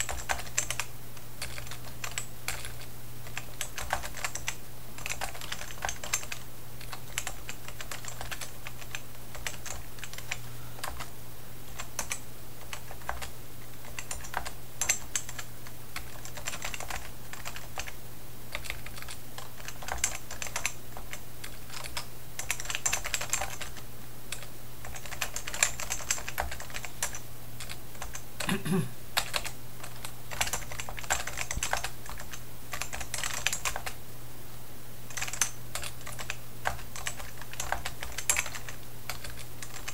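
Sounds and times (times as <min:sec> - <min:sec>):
keyboard typing: 0:00.0 - 0:11.1, 0:11.7 - 0:28.6, 0:29.2 - 0:34.0, 0:35.1 - 0:39.9
low steady hum: 0:00.0 - 0:39.9.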